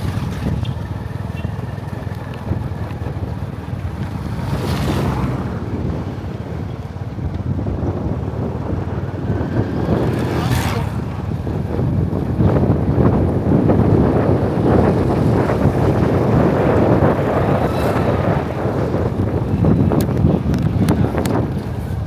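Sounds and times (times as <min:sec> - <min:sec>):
vehicle rumble: 0:00.0 - 0:22.0
wind buffeting microphone: 0:00.0 - 0:22.0.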